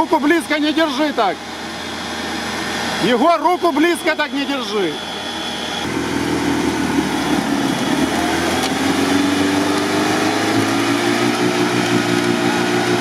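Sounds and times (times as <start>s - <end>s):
vehicle engine running: 0.0s - 13.0s
winch motor whining: 0.0s - 13.0s.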